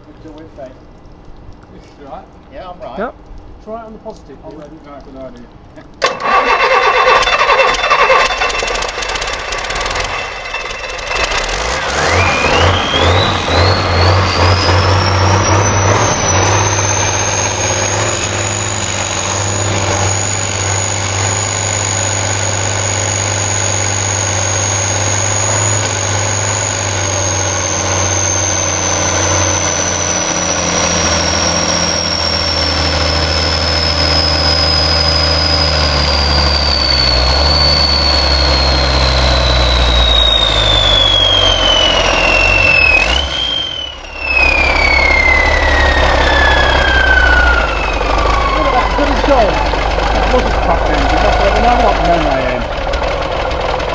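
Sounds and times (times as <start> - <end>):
high engine whine: 5.8 - 53.9
truck engine droning: 5.8 - 53.9.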